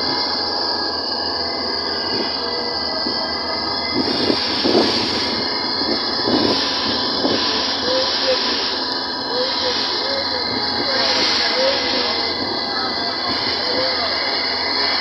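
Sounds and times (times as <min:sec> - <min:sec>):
vehicle engine and road din: 0:00.0 - 0:15.0.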